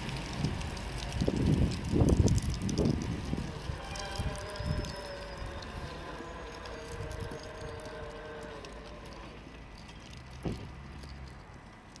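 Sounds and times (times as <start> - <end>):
barrier mechanical hum: 0.0 - 12.0.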